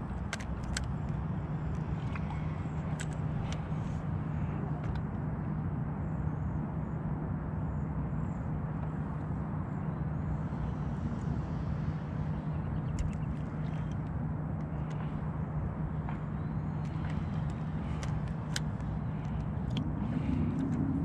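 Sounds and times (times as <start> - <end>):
electric trolling motor humming: 0.0 - 21.0.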